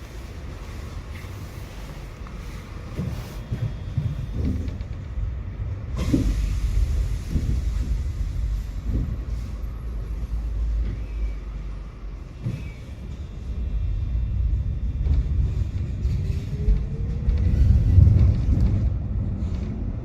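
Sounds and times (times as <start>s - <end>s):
tram rumbling: 0.0s - 20.0s.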